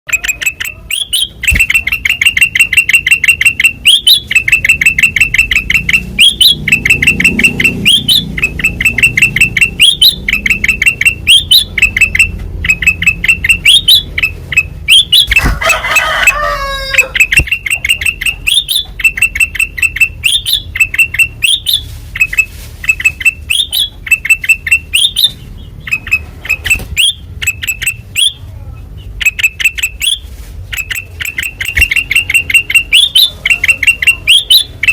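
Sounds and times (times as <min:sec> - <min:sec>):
bulbul singing trills: 0:00.1 - 0:15.5, 0:17.0 - 0:34.9
bird calls with falling glides: 0:00.1 - 0:28.4.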